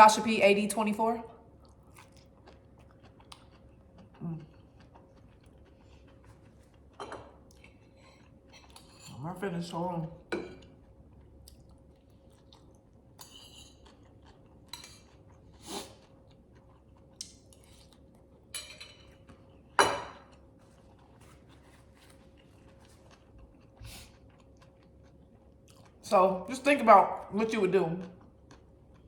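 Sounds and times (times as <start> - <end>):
chewing and mouth noises: 1.5 - 9.1, 10.6 - 26.1, 28.0 - 29.0.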